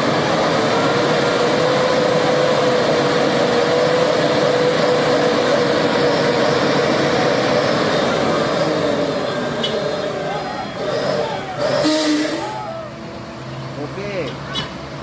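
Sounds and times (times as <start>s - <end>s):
diesel truck engine revving: 0.0s - 15.0s.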